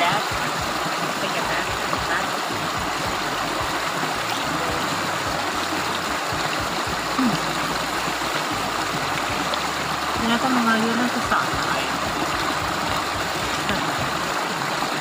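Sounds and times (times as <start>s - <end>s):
small waterfall rushing and splashing: 0.0s - 15.0s.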